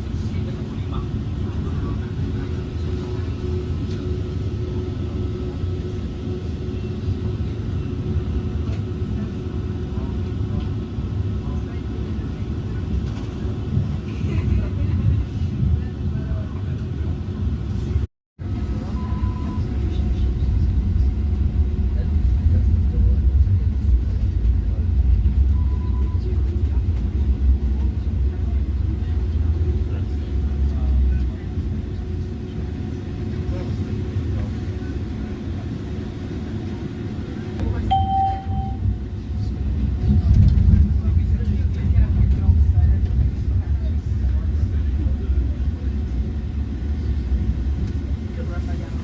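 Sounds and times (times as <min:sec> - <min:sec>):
tram rumbling on track: 0:00.0 - 0:49.0.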